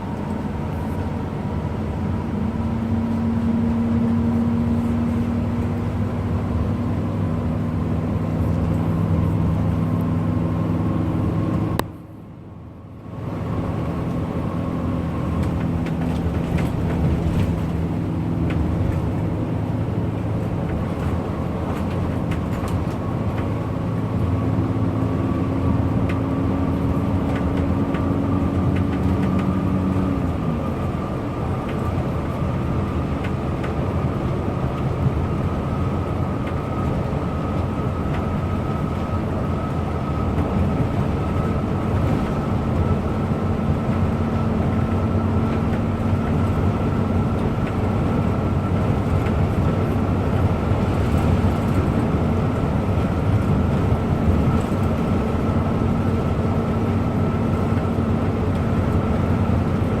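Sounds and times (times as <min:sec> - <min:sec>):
bus engine and road noise: 0:00.0 - 1:00.0.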